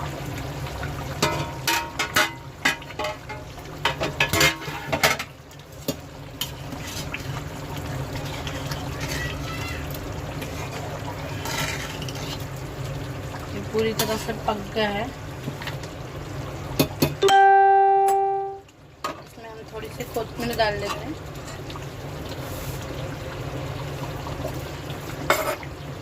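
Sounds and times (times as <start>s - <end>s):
curry simmering: 0.0s - 17.1s, 18.8s - 26.0s.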